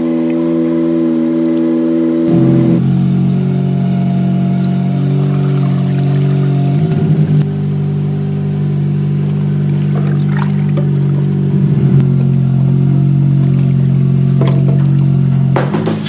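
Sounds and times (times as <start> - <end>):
forklift engine humming: 0.0 - 16.0.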